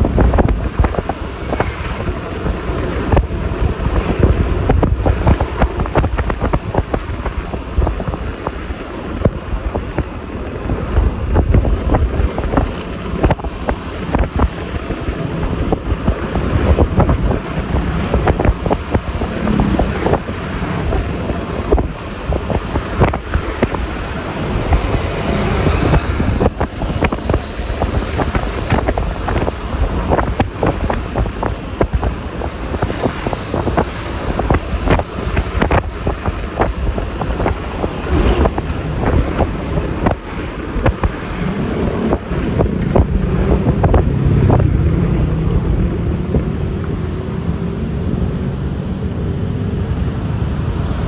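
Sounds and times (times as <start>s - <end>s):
tyre and road noise: 0.0s - 51.0s
wind buffeting microphone: 0.0s - 51.0s
scooter engine: 8.5s - 51.0s.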